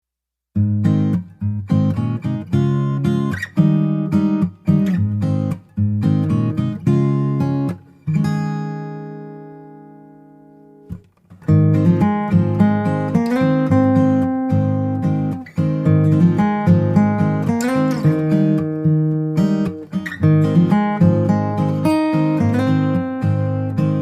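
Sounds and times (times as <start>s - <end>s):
strummed acoustic guitar: 0.5s - 24.0s.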